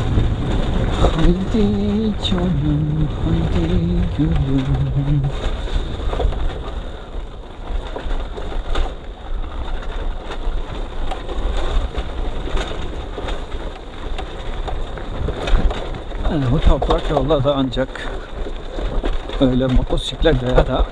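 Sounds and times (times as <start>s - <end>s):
motorcycle rumble on dirt track: 0.0s - 20.9s.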